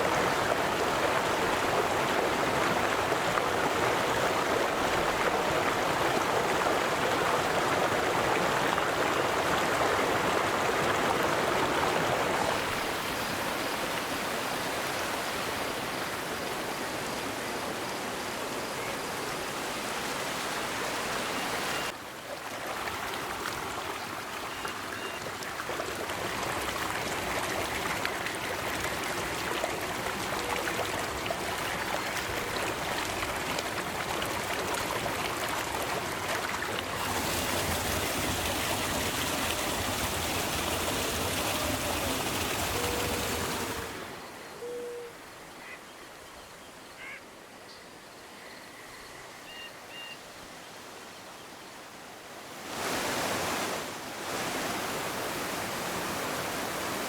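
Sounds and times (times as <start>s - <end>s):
river water rushing: 0.0s - 44.4s, 52.2s - 57.0s.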